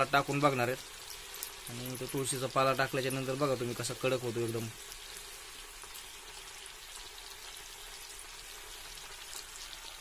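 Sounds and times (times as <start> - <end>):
butter bubbling and sizzling: 0.0 - 10.0.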